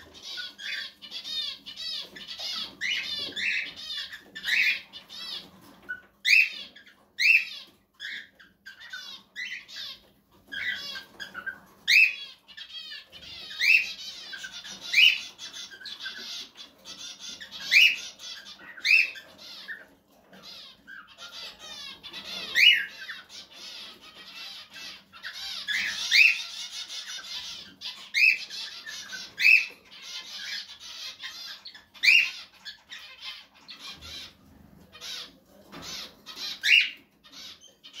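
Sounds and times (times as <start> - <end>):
cockatiels chattering: 0.0 - 38.0
cockatiels chirping: 0.0 - 38.0.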